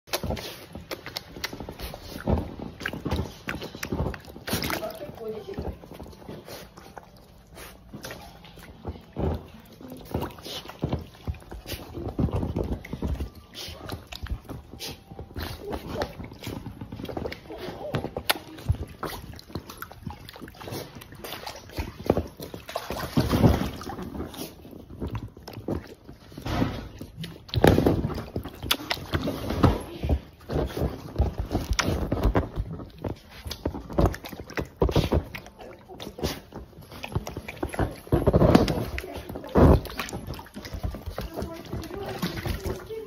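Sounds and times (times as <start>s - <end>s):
paws splashing water: 0.0s - 43.0s.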